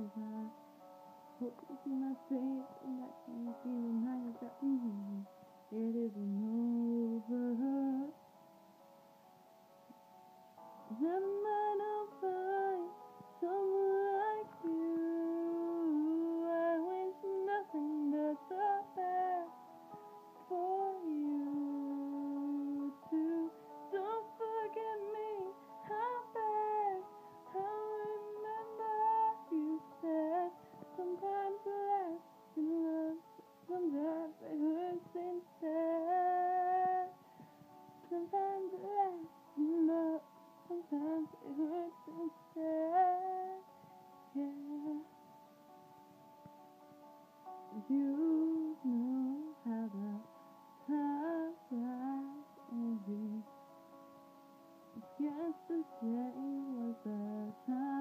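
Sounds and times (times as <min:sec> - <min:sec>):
woman singing slow melody: 0:00.0 - 0:08.3, 0:10.8 - 0:45.4, 0:47.6 - 0:53.6, 0:54.9 - 0:58.0
soft sustained backing notes: 0:00.0 - 0:58.0.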